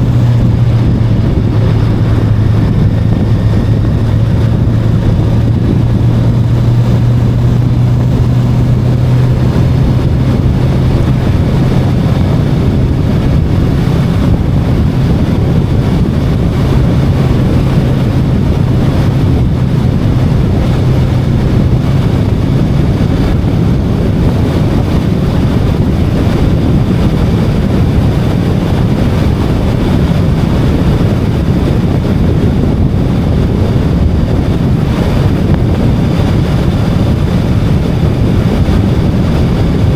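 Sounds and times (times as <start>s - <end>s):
motorcycle engine cruising: 0.0s - 39.9s
wind rush over microphone: 0.0s - 39.9s.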